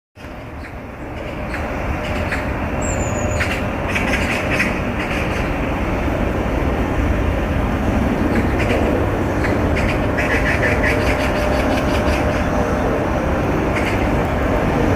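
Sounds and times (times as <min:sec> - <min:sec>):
road roller engine rumble: 0:00.2 - 0:14.9.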